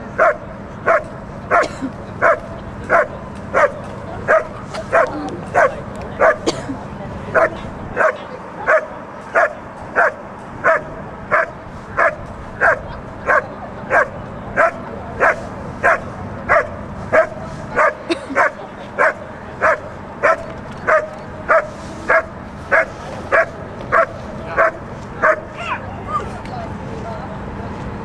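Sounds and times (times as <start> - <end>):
dog barking: 0.2 - 6.6, 7.4 - 25.8.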